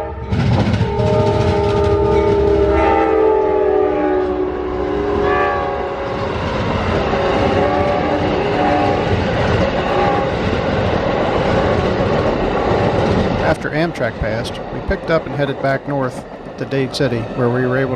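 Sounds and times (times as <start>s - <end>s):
train horn chord: 0.0s - 10.6s, 13.4s - 17.9s
train rumbling past: 0.0s - 17.9s.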